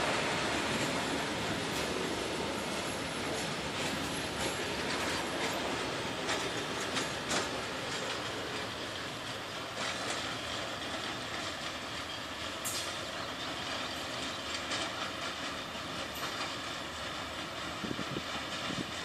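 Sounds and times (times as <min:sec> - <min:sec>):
freight wagon wheels rumbling: 0:00.0 - 0:19.0.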